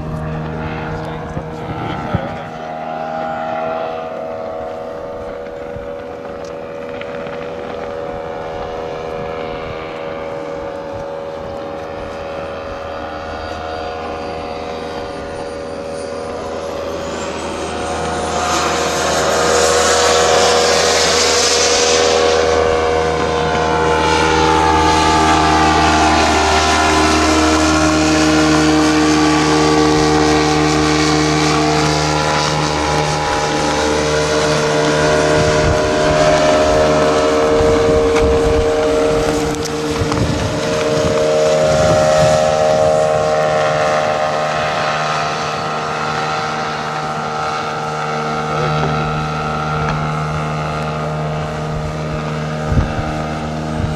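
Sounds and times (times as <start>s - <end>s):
airplane whooshing pass: 0.0s - 53.9s
model airplane motor droning: 0.0s - 53.9s
steady low hum: 0.0s - 53.9s.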